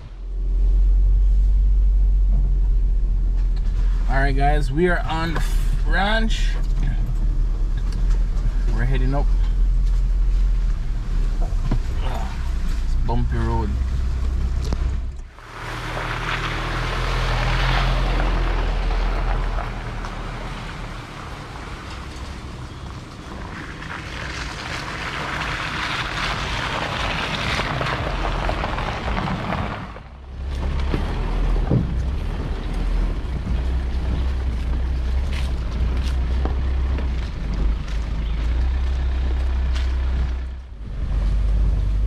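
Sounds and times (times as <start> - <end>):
road noise: 0.0 - 42.0
vehicle engine hum: 0.0 - 42.0.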